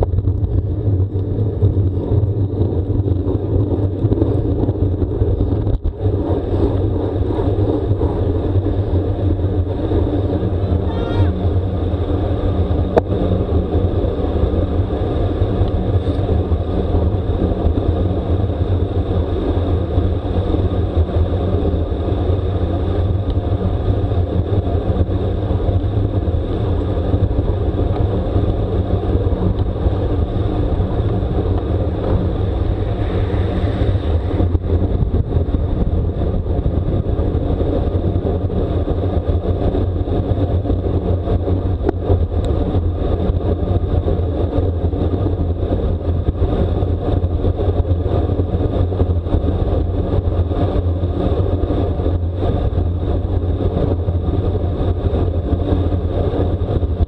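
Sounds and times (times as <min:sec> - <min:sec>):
bicycle road noise: 0:00.0 - 0:57.0
wind rush: 0:00.0 - 0:57.0.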